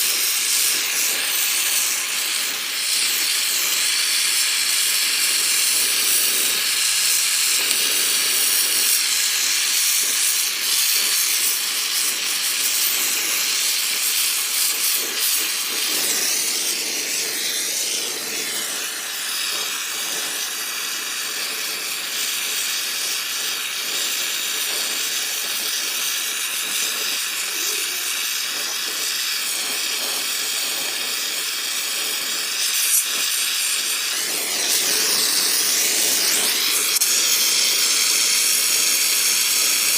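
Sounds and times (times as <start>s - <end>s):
torch flame hissing: 0.0s - 39.9s.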